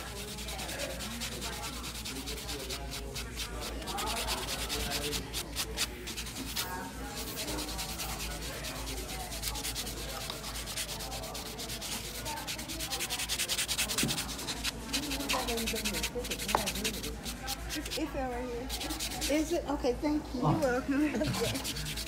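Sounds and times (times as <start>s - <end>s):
sanding block rasping on nails: 0.0s - 18.0s, 18.7s - 19.5s, 21.2s - 22.0s.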